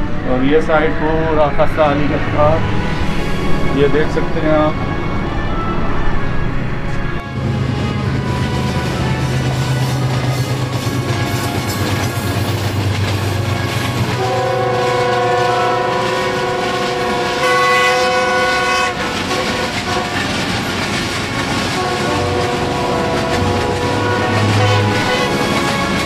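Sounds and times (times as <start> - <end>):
locomotive engine and wheels rumbling: 0.0 - 26.0
train horn blast: 0.0 - 26.0.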